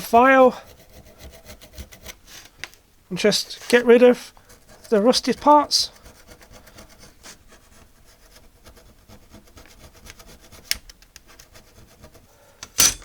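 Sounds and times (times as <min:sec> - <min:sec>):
hand file rasping metal: 0:00.0 - 0:02.4, 0:03.6 - 0:12.3.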